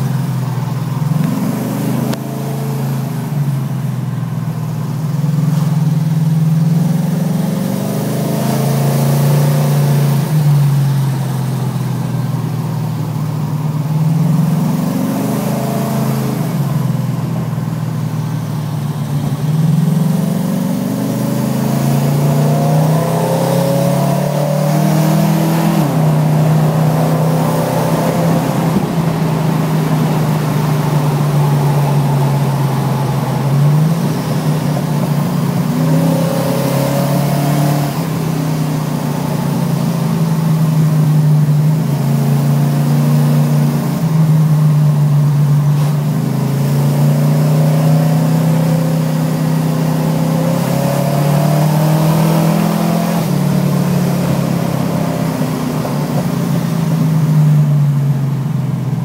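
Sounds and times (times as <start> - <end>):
car engine running while driving: 0.0 - 59.0
road noise: 0.0 - 59.0.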